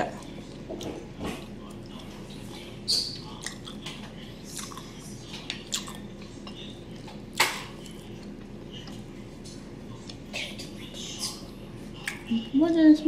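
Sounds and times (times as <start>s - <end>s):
person chewing: 0.0s - 12.4s.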